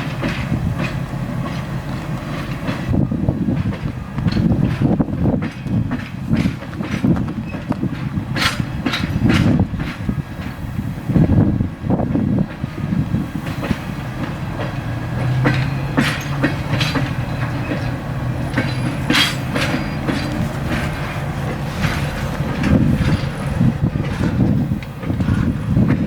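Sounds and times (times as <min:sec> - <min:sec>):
diesel locomotive engine drone: 0:00.0 - 0:26.0
wheels clicking and clanking on rails: 0:00.0 - 0:26.0.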